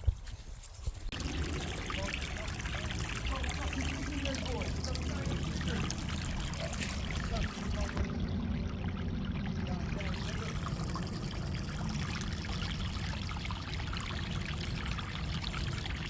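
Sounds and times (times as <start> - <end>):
water running through trench: 0.9 - 16.0.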